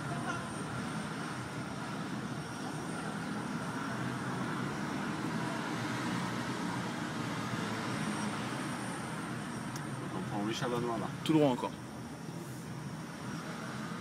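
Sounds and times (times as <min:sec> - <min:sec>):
road and tyre noise in car: 0:00.0 - 0:14.0.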